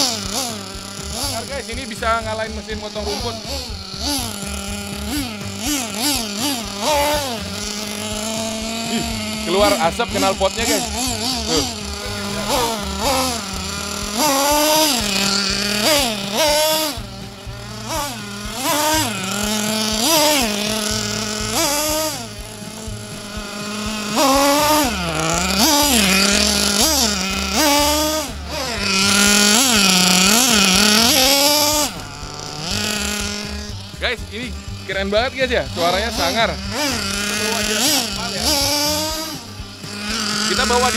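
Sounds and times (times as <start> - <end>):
small two-stroke engine revving: 0.0 - 40.9.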